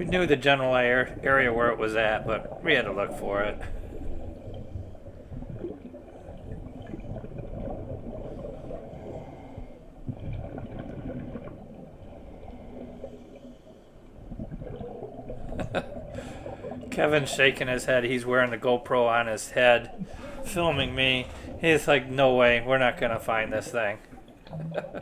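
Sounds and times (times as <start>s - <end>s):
muffled underwater bubbling: 0.0s - 25.0s.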